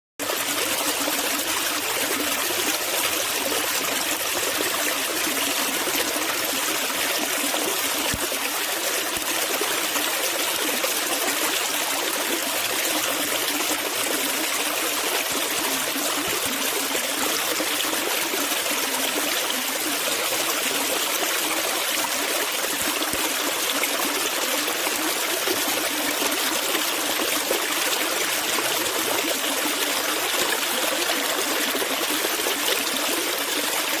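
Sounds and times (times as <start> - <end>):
stream water running: 0.2 - 34.0.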